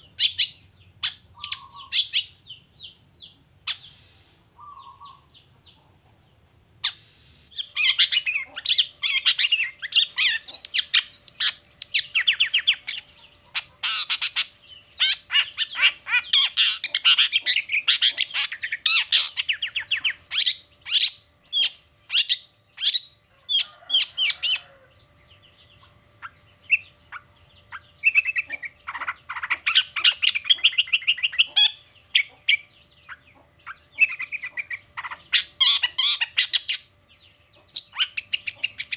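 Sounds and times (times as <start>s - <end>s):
bird singing chattering song: 0.0s - 38.9s.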